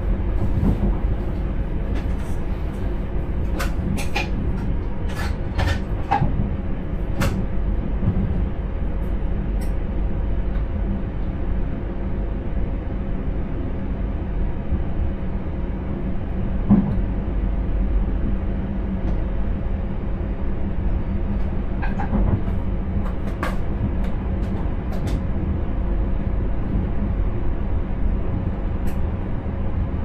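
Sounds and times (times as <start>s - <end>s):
train rumble and hum: 0.0s - 30.0s.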